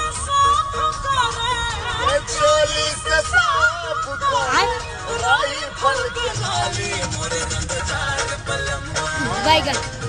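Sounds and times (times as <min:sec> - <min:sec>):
backing music: 0:00.0 - 0:10.0.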